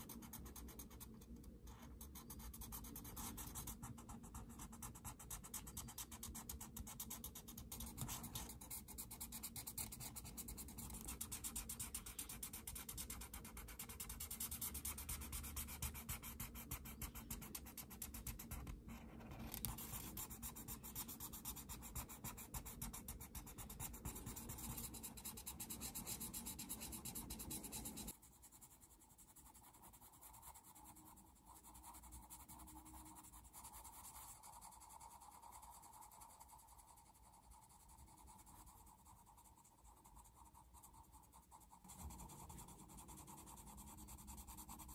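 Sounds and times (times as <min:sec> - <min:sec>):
colored pencil shading: 0:00.0 - 0:44.9
markers scratching on paper: 0:00.0 - 0:44.9.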